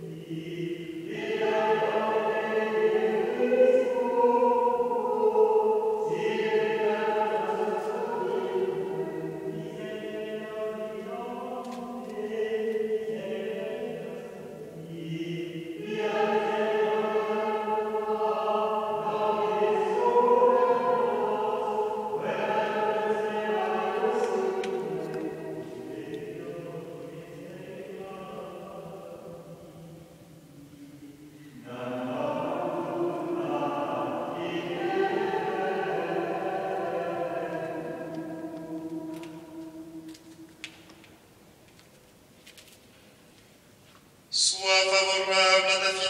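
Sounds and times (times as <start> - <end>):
voices singing slow chant: 0.0 - 41.4, 44.3 - 46.0.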